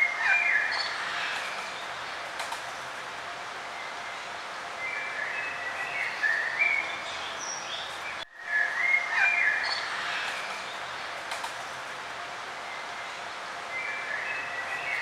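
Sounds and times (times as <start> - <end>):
songbirds singing: 0.0 - 2.2, 3.6 - 11.2, 12.6 - 15.0
outdoor ambience hiss: 0.0 - 15.0.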